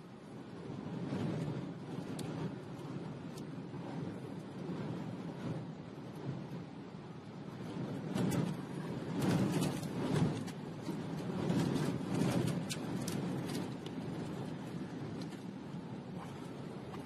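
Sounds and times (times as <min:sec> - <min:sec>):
rain ticking on car: 0:00.0 - 0:17.0
rumble of tyres and wind: 0:00.0 - 0:17.0.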